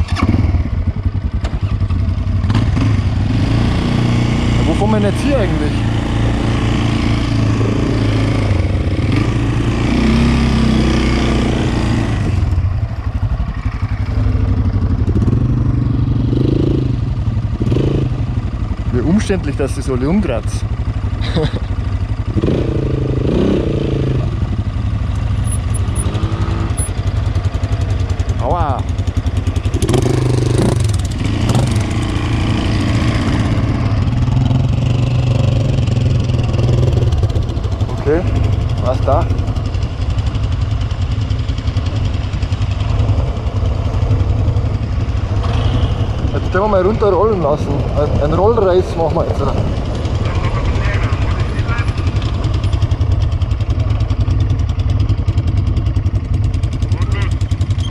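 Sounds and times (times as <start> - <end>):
quad engine running: 0.0 - 57.9.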